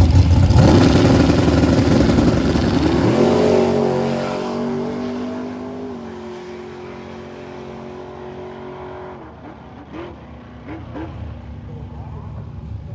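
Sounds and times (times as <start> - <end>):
drag racing car engine: 0.0 - 12.9.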